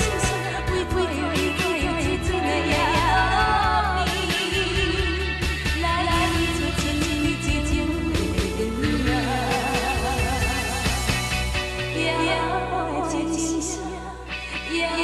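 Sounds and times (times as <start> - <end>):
person singing with vibrato: 0.0 - 15.0
pop band accompaniment: 0.0 - 15.0.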